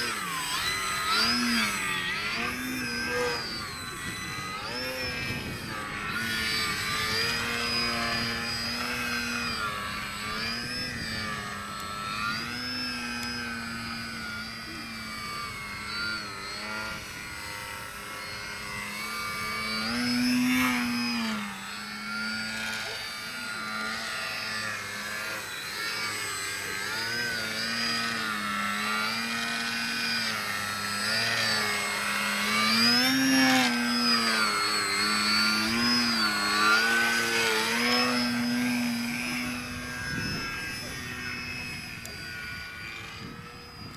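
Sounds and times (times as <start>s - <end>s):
model airplane motor whining: 0.0s - 43.9s.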